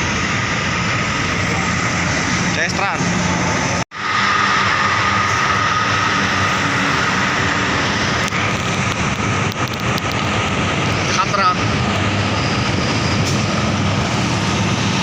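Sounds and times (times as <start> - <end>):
buses and trucks passing close: 0.0 - 15.0.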